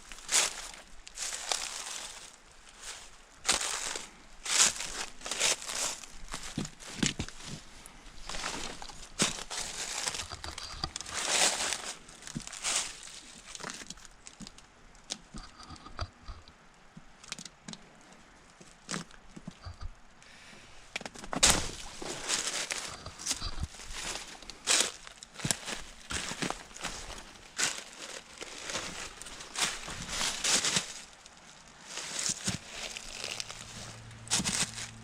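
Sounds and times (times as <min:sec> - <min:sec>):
footsteps crunching through dry leaves: 0:00.0 - 0:14.6, 0:21.3 - 0:35.0.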